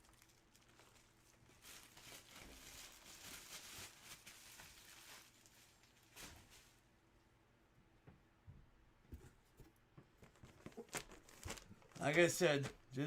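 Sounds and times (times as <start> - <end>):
rustling and crinkling of items: 0.0 - 7.0, 9.1 - 13.0.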